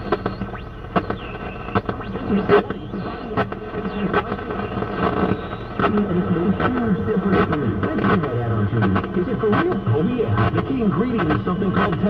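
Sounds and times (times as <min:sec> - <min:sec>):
broadcast voices: 0:00.0 - 0:12.0
radio music: 0:00.0 - 0:12.0
radio static and whistling: 0:00.0 - 0:12.0.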